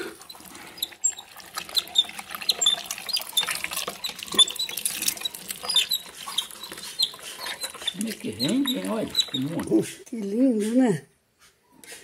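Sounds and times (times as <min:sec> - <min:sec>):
meat grinder squeaking: 0:00.0 - 0:09.8.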